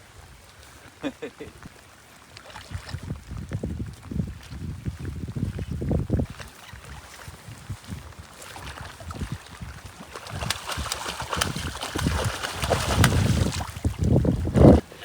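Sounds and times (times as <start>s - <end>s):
gusty wind on microphone: 2.7s - 15.0s.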